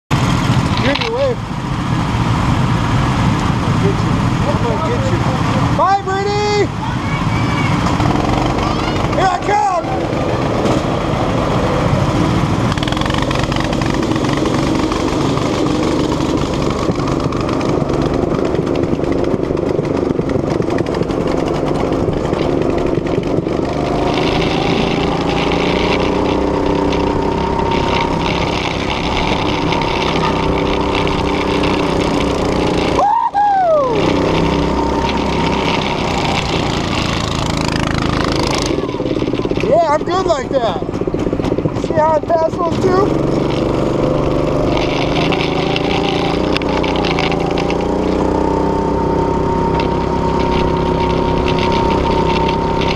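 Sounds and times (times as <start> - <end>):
go-kart engine running: 0.1 - 52.9.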